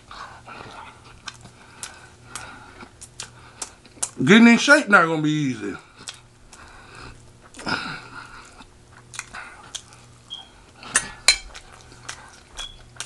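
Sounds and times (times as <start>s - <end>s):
person chewing food: 0.0s - 4.2s, 5.8s - 13.0s.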